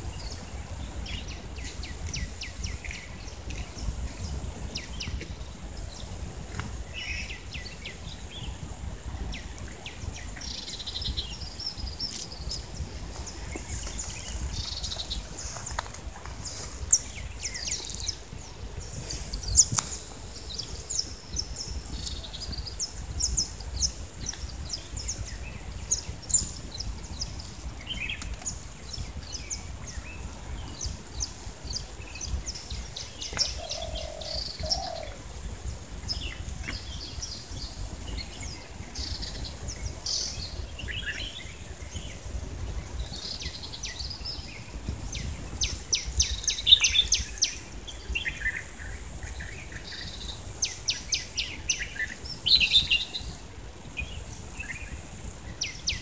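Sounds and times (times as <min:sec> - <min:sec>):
birds chirping: 0:06.8 - 0:56.0.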